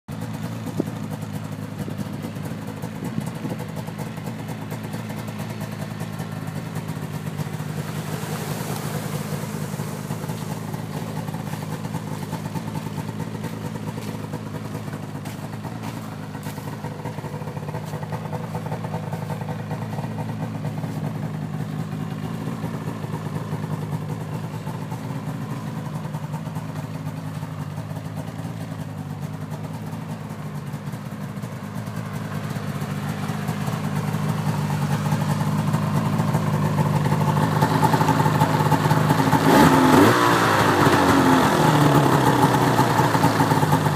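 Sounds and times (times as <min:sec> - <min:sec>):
snowmobile engine idling: 0:00.1 - 0:43.9.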